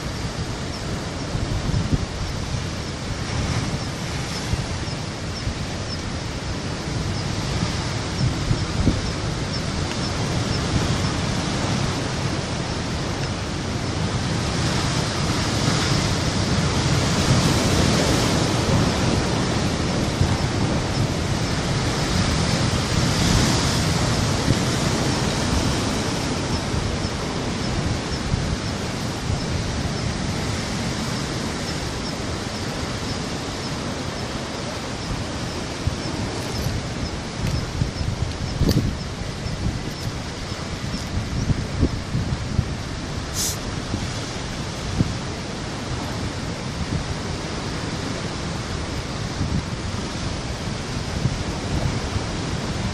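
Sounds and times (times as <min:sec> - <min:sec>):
surf breaking over rocks: 0:09.8 - 0:52.9.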